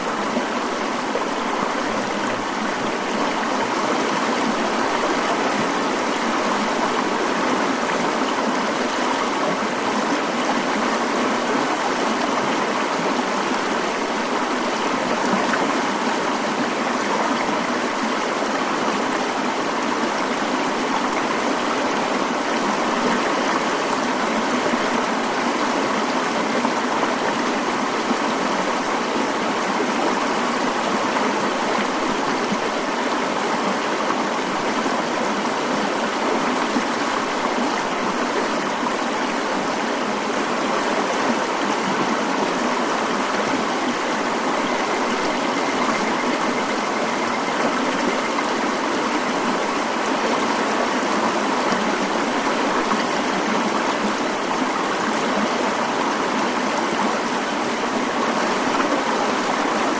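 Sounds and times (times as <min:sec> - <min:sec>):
mountain stream flowing: 0:00.0 - 0:59.9.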